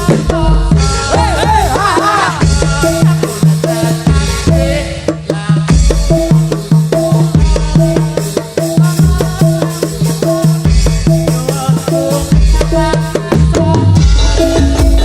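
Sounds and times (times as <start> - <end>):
drums: 0.0 - 15.0
pitched percussion fast pattern: 0.0 - 15.0.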